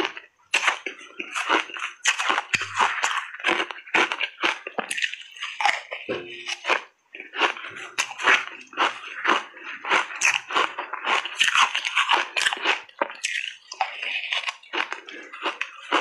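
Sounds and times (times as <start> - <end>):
crunching and chewing ice: 0.0 - 16.0.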